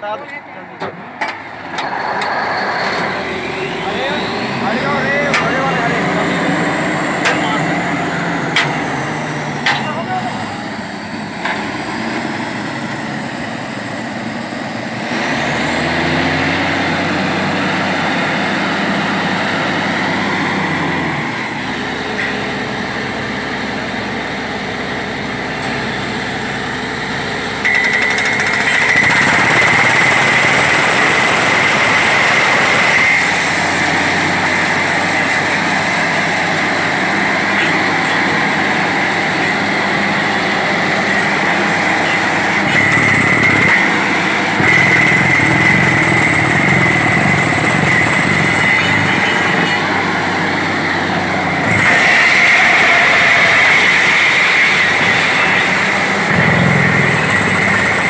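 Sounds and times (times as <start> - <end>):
drilling rig engine drone: 0.0 - 58.0
high whine: 1.7 - 58.0.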